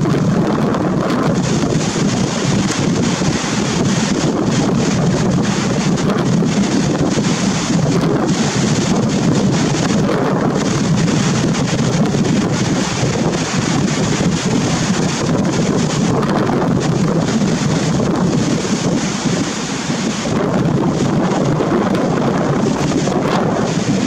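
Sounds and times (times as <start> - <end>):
rough surf: 0.0 - 24.0
wind buffeting microphone: 0.0 - 24.0.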